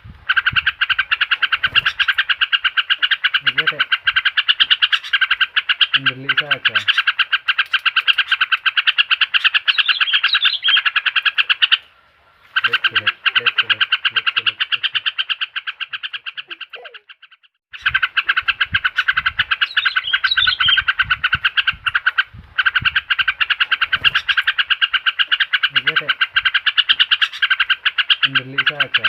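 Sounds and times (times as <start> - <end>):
rapid chattering bird calls: 0.2 - 29.0.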